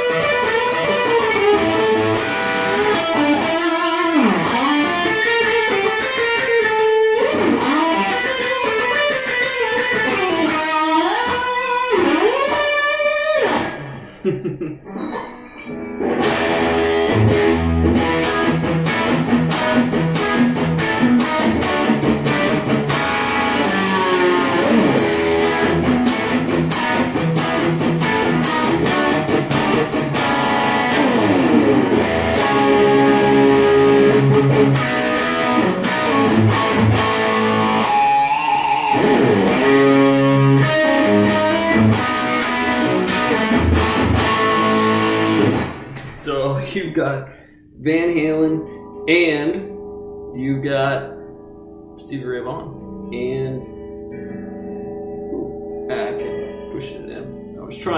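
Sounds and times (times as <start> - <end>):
electric guitar playing: 0.0 - 57.9.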